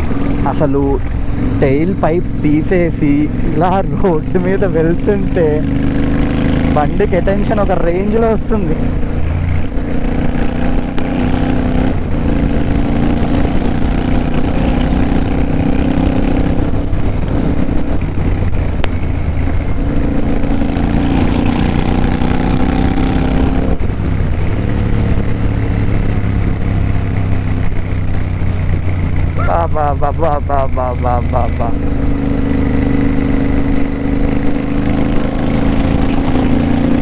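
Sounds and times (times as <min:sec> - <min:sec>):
loud motorcycle engine revving: 0:00.0 - 0:37.0.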